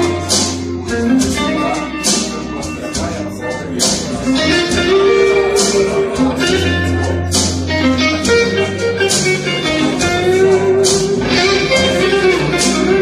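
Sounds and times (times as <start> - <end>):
blues guitar over bass line: 0.0 - 13.0.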